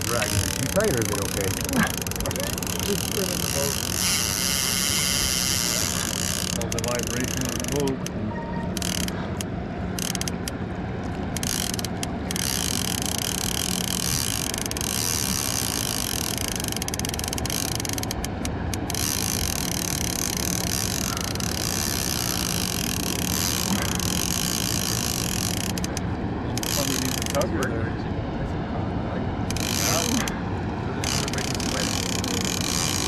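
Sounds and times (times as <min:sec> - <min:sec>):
fishing reel drag clicking: 0:00.0 - 0:08.1, 0:08.7 - 0:10.6, 0:11.3 - 0:26.0, 0:26.6 - 0:27.5, 0:29.5 - 0:30.4, 0:31.0 - 0:33.0
outboard motor humming: 0:00.0 - 0:33.0.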